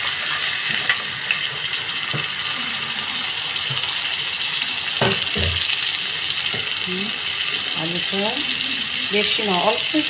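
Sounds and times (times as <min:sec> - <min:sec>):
potatoes sizzling in oil: 0:00.0 - 0:10.0.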